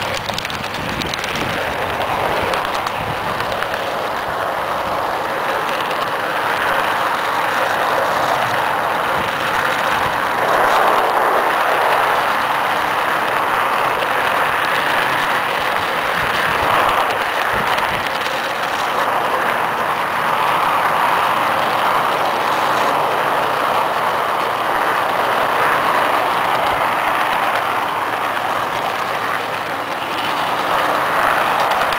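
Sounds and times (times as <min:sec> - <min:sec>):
model train wheels rolling: 0:00.0 - 0:31.9.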